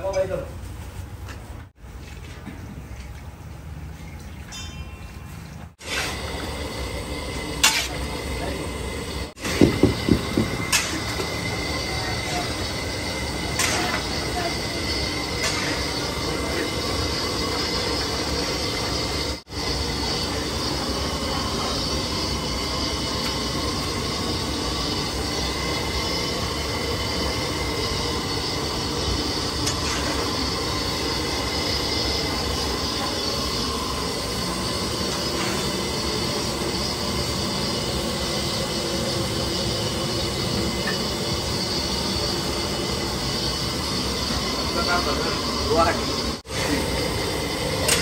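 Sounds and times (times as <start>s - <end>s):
gas burner rushing: 5.7s - 48.0s.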